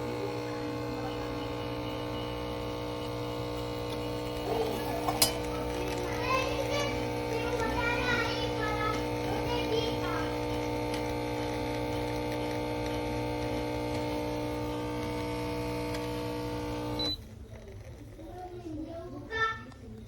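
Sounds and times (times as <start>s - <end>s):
espresso machine pump humming: 0.0s - 18.7s.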